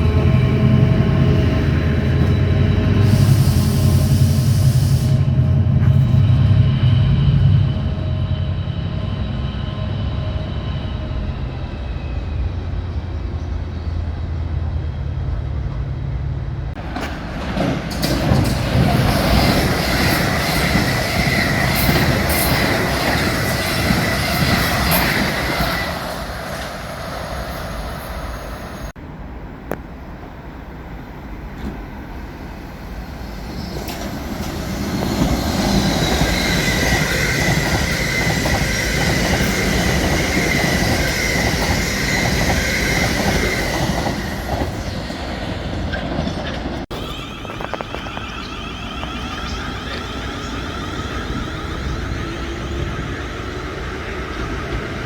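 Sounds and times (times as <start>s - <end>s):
train wheels squealing: 0.0s - 14.2s, 17.6s - 28.9s, 32.6s - 55.0s
train rumbling on rails: 0.0s - 55.0s.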